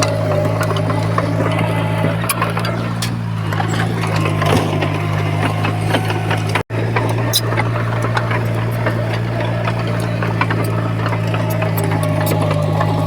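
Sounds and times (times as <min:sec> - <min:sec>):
clicks and clanks: 0:00.0 - 0:13.0
diesel engine running: 0:00.0 - 0:13.0.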